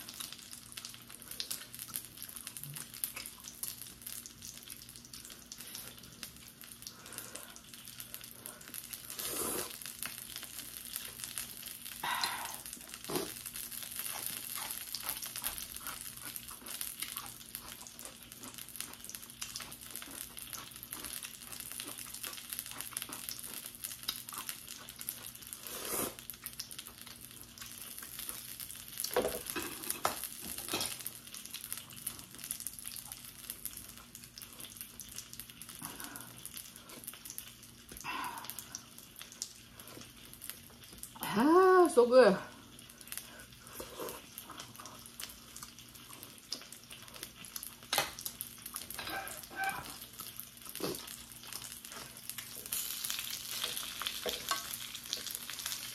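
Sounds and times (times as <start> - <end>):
steady fine crackle: 0.0 - 55.9.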